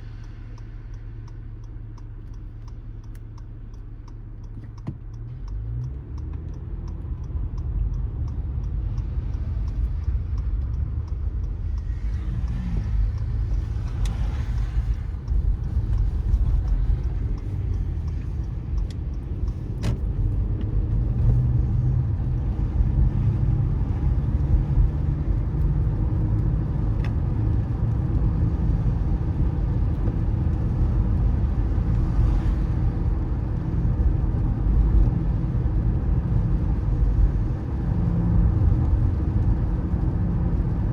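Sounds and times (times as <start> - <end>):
car driving on wet road: 0.0 - 40.9
road and engine rumble: 0.0 - 40.9.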